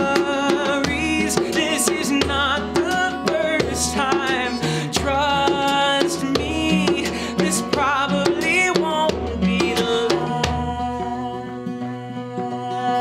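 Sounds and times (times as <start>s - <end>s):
steady drum beat: 0.0s - 10.9s
live band playing: 0.0s - 11.3s.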